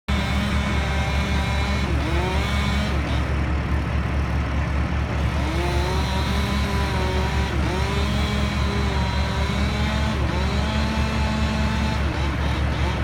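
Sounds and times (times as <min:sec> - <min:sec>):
crane engine throbbing: 0:00.1 - 0:13.0
engine whine: 0:00.1 - 0:13.0.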